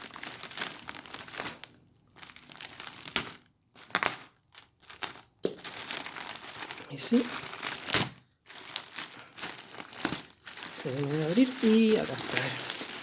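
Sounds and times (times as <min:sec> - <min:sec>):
cardboard packaging crinkling: 0:00.0 - 0:13.0.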